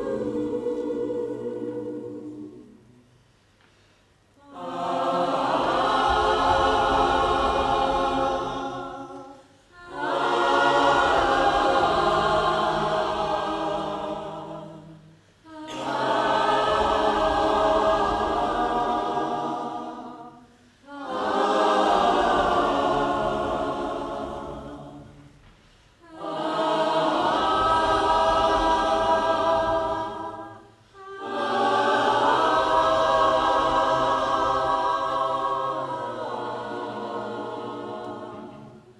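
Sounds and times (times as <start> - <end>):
choir singing in harmony: 0.0 - 3.2, 4.4 - 38.9.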